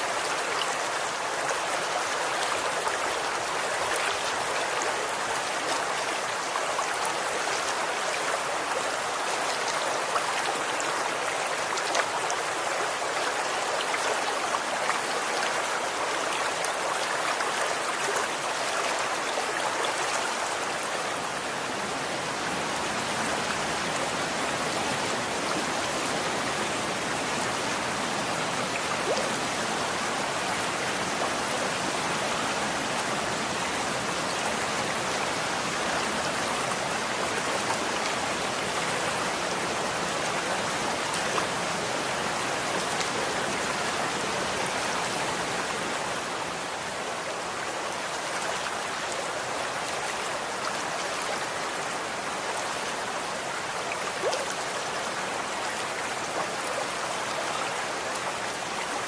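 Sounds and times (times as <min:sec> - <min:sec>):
stream flowing and splashing: 0:00.0 - 0:59.0.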